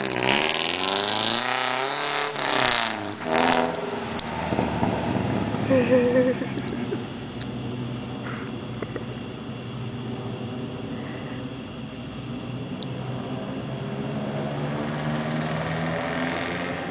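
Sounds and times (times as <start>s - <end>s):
high-pitched whine: 0.0s - 16.9s.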